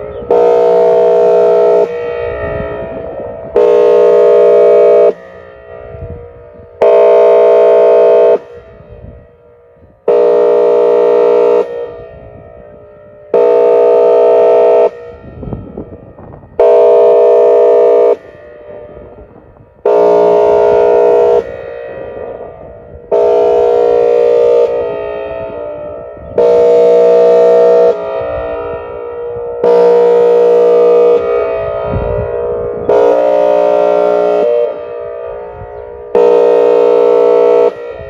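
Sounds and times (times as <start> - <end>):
warning siren horn blasts: 0.0 - 38.0.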